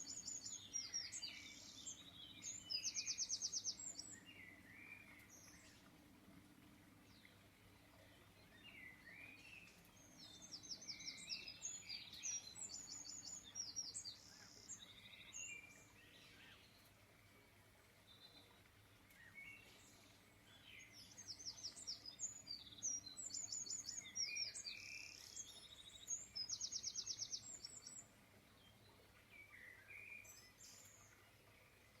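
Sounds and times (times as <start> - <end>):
small songbirds chirping and trilling: 0.0 - 32.0.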